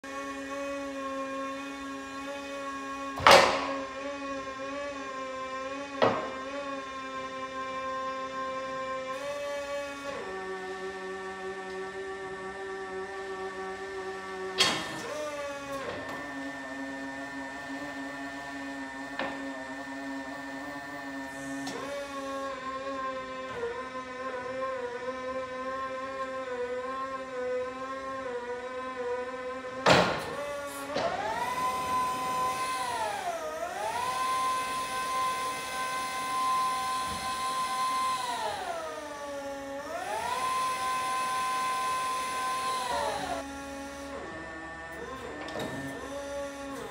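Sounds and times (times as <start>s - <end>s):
electric motor whine: 0.0s - 46.9s.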